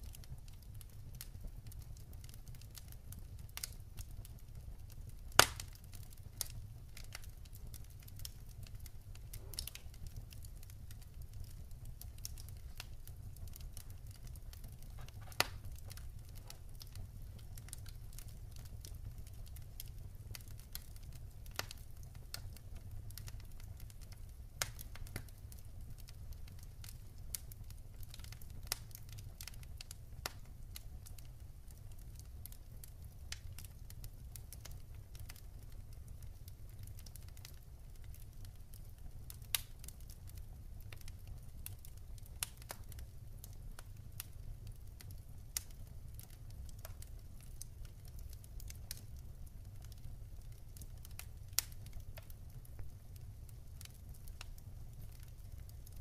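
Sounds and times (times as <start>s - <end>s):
fire crackling and popping: 0.0s - 56.0s
low steady fire rumble: 0.0s - 56.0s.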